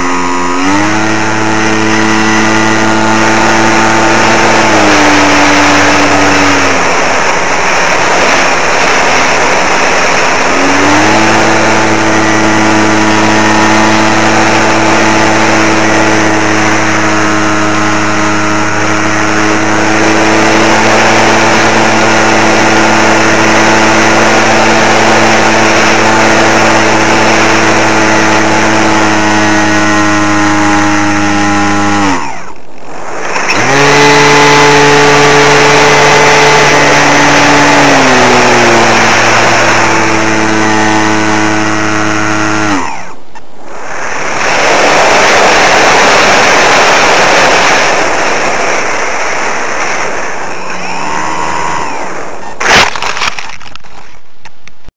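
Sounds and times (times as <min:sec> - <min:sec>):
wind on microphone: 0:00.0 - 0:54.2
model plane motor and propeller: 0:00.0 - 0:54.9.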